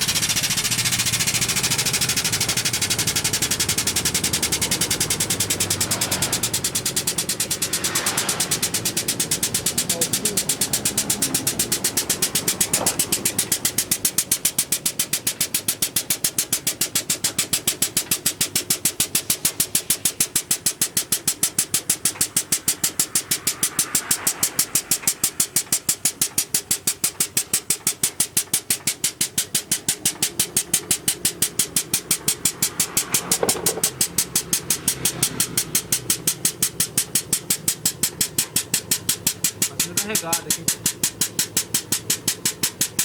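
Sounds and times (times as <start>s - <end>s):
engine idling: 0.0s - 43.0s.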